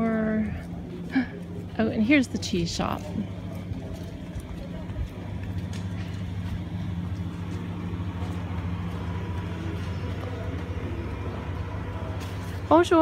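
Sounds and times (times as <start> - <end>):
low motor hum: 0.0 - 13.0
street noise: 0.0 - 13.0.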